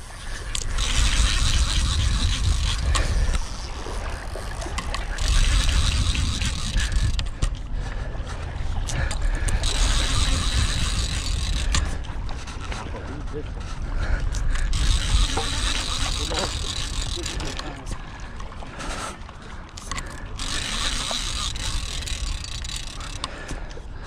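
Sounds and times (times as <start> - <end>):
fishing reel clicking and whirring: 0.0 - 24.0.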